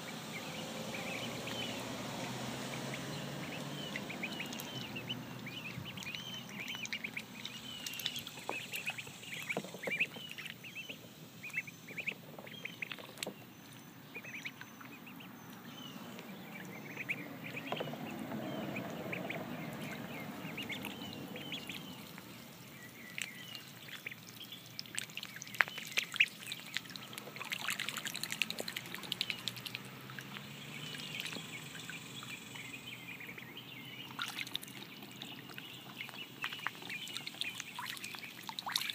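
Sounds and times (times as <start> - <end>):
ducklings peeping: 0.0 - 38.9
water splashing and lapping: 0.0 - 38.9.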